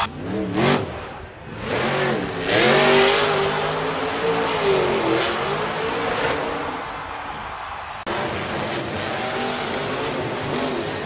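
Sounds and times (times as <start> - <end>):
monster truck engine revving: 0.0 - 6.8, 8.1 - 11.0.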